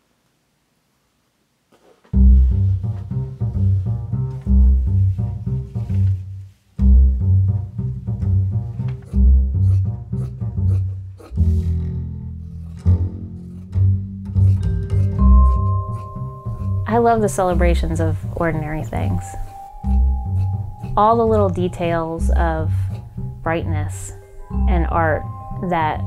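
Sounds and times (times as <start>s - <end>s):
background music with plucked bass: 2.2s - 26.0s.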